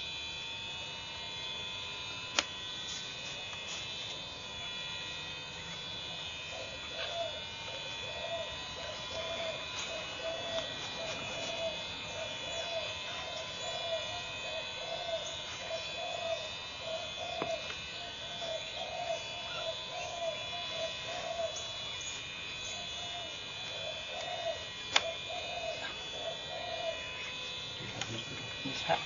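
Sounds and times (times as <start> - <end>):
pulsing drone: 0.0 - 29.0.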